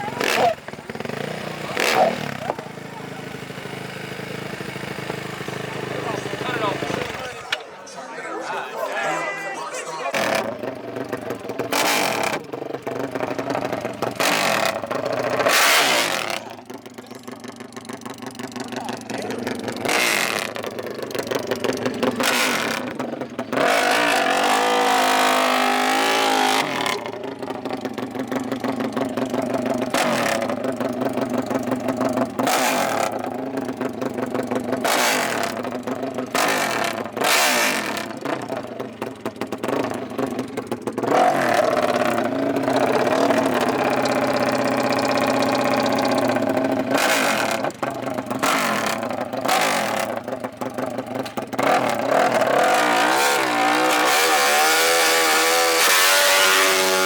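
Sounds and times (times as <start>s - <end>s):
racing engines revving: 0.0s - 57.0s.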